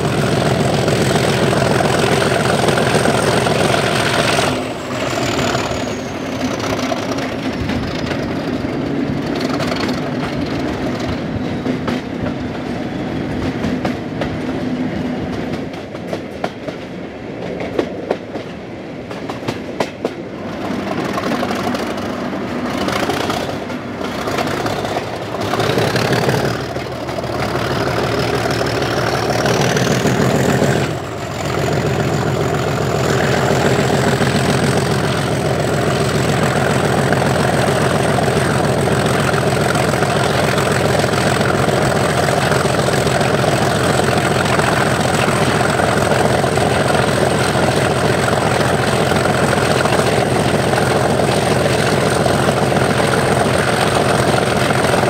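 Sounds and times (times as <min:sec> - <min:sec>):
diesel locomotive engine thrashing: 0:00.0 - 0:12.4, 0:19.2 - 0:55.0.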